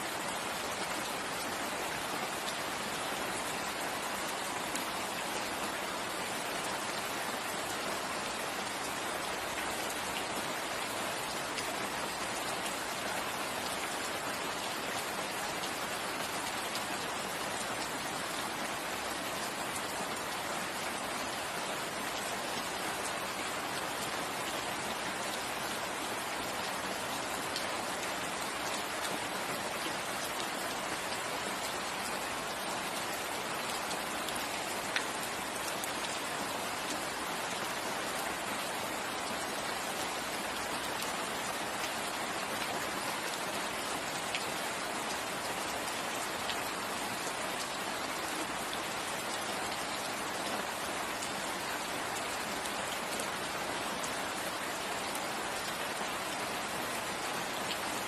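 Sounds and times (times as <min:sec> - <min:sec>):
rain falling in a forest: 0:00.0 - 0:58.0.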